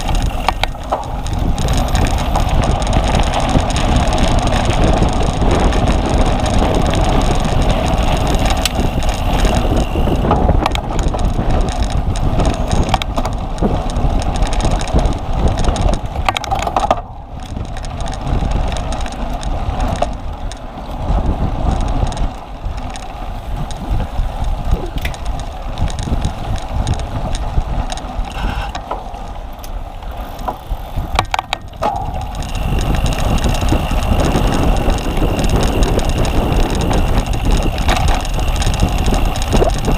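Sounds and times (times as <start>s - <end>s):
bicycle tyres and frame rumbling: 0.0s - 39.9s
bike rattling clicks and knocks: 0.0s - 39.9s
wind rushing on microphone: 0.0s - 39.9s.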